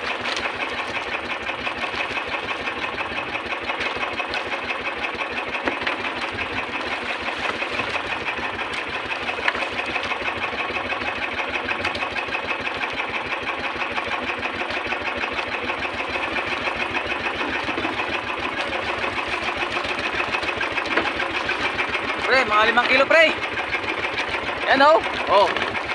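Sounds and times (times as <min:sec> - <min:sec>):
boat engine idling with chugging: 0:00.0 - 0:25.9.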